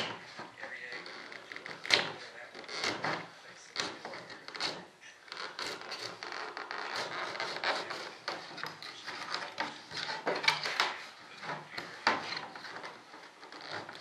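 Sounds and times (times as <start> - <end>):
hand scraping fiberglass: 0.0 - 14.0.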